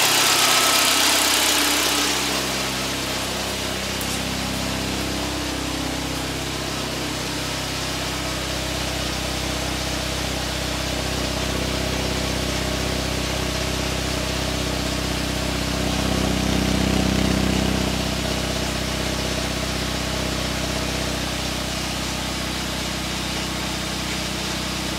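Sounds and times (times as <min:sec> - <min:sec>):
car exhaust idling: 0:00.0 - 0:24.9.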